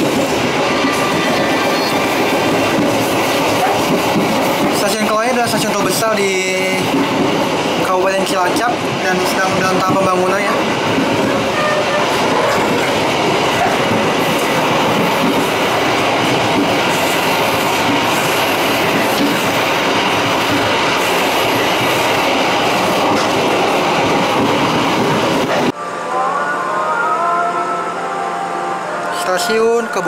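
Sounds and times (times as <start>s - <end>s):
train wheels rumbling on rails: 0.0s - 25.8s.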